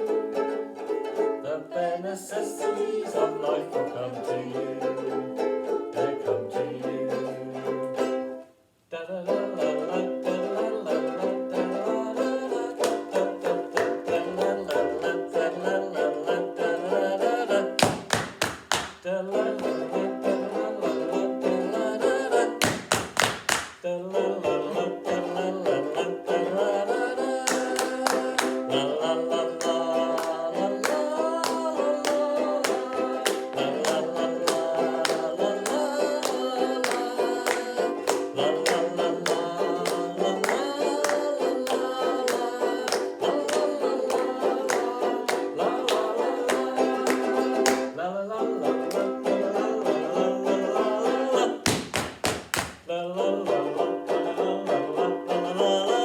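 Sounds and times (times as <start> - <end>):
ukuleles strumming: 0.0 - 56.0.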